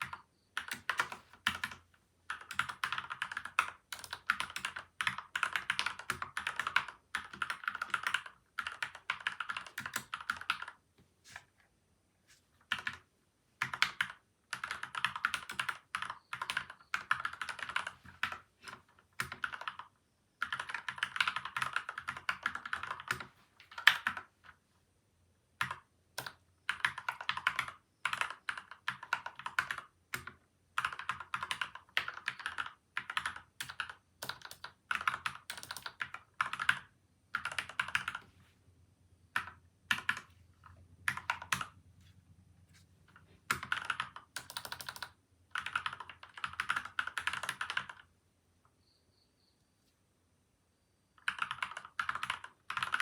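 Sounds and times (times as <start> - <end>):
fast typing on mechanical keyboard: 0.0 - 10.8, 12.7 - 24.6, 25.6 - 38.2, 39.4 - 41.8, 43.4 - 48.1, 51.2 - 53.0.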